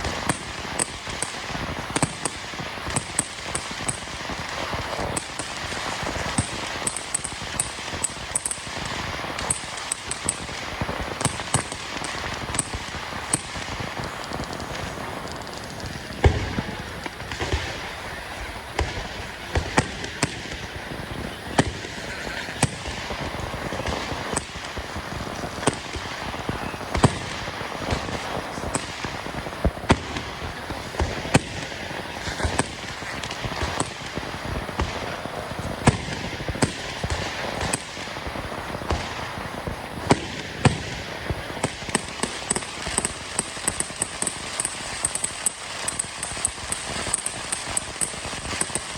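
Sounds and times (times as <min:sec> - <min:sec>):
fireworks bangs: 0:00.0 - 0:48.9
fireworks crackling: 0:00.0 - 0:48.9.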